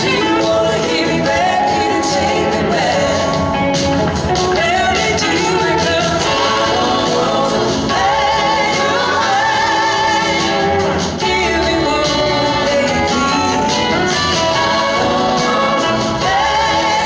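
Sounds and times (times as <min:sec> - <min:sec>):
person singing: 0:00.0 - 0:03.6, 0:04.4 - 0:17.0
electric guitar: 0:00.0 - 0:17.0
live band playing: 0:00.0 - 0:17.0.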